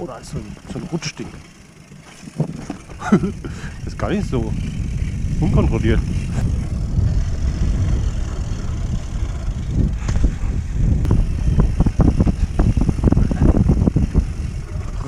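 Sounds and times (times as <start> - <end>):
bike rattling over rough ground: 0.0 - 15.0
bike tyres rolling on dirt trail: 0.0 - 15.0
wind rumble on microphone: 2.3 - 15.0.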